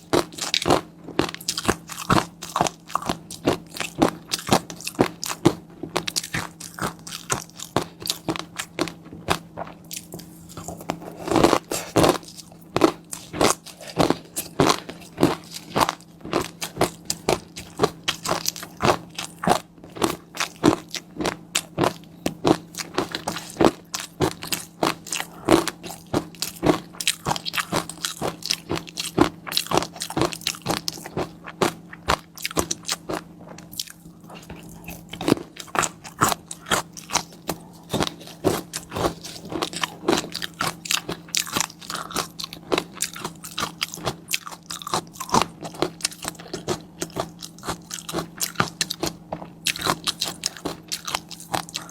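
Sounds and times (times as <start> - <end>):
crunching and chewing bites: 0.0 - 51.9
steady low hum: 0.0 - 51.9.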